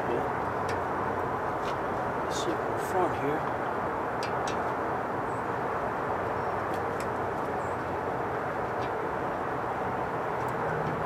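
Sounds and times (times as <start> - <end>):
outdoor hiss and rumble: 0.0 - 11.0.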